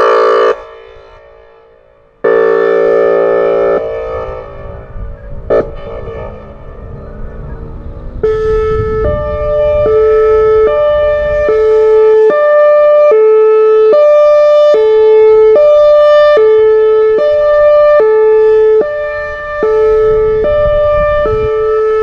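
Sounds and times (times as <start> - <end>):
two-tone warning siren: 0.0 - 22.0.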